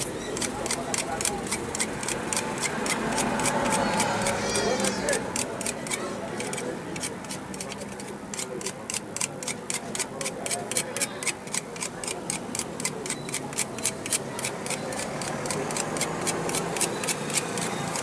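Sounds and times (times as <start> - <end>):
timer ticking rapidly: 0.4 - 4.4, 5.1 - 7.7, 8.3 - 18.0.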